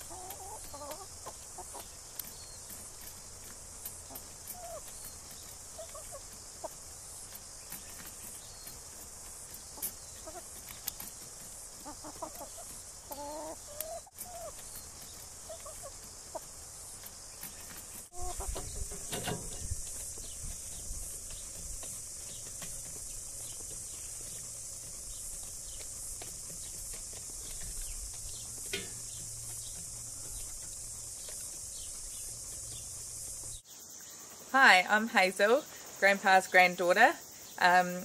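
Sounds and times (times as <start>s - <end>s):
chickens clucking: 0.0s - 34.5s
steady high hiss: 0.0s - 38.0s.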